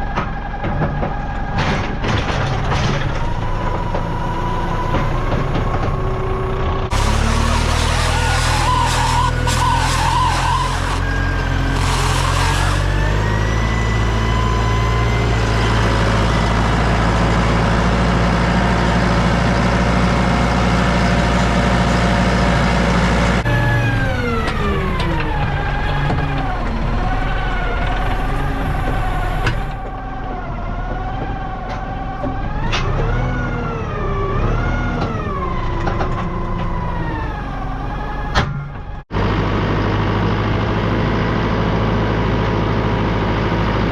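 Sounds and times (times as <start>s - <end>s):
tractor engine revving: 0.0s - 38.4s.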